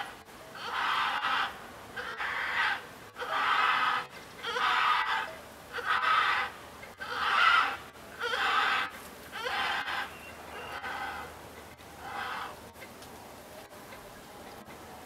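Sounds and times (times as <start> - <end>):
vultures harsh calls: 0.0 - 12.6.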